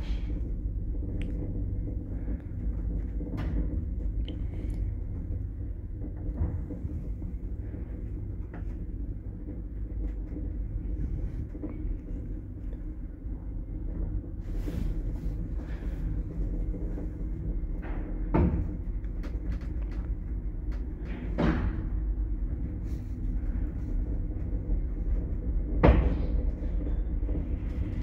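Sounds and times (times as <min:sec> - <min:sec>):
lift running rumble: 0:00.0 - 0:28.0.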